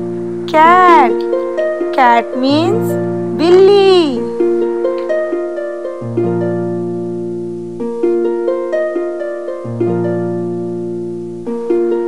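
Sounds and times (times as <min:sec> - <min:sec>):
plucked melody: 0:00.0 - 0:12.0.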